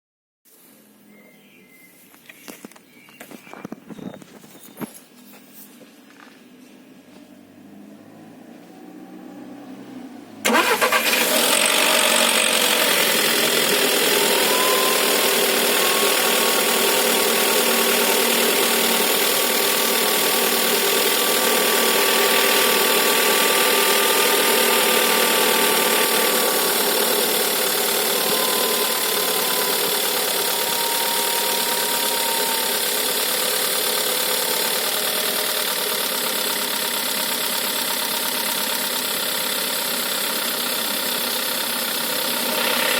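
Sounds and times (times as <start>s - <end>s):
car engine starting and idling: 7.4s - 42.9s.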